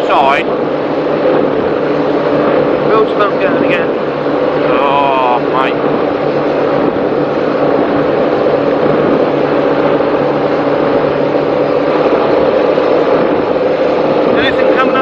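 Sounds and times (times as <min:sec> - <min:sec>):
powerboat engines droning: 0:00.0 - 0:15.0
rushing water noise: 0:00.0 - 0:15.0.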